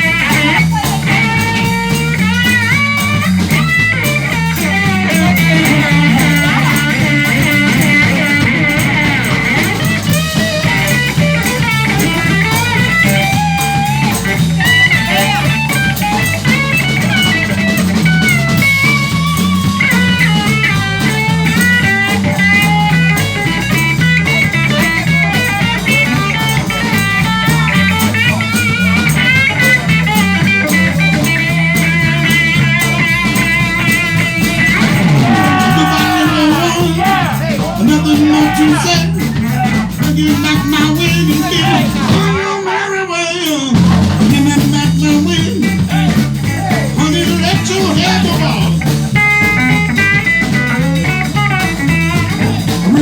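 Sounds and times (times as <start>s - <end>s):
bass line: 0.0s - 53.0s
drums: 0.0s - 53.0s
lead guitar solo: 0.0s - 53.0s.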